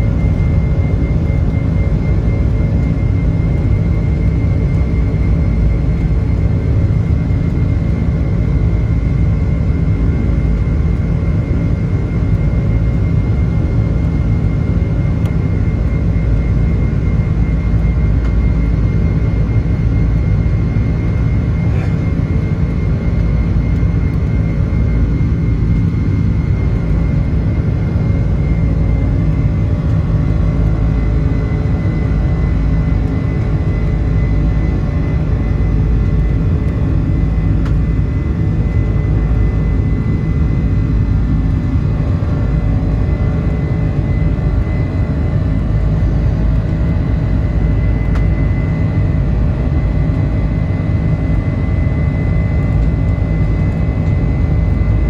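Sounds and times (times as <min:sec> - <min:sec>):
airplane engines rumbling: 0:00.0 - 0:55.0
faint steady whine: 0:00.0 - 0:55.0.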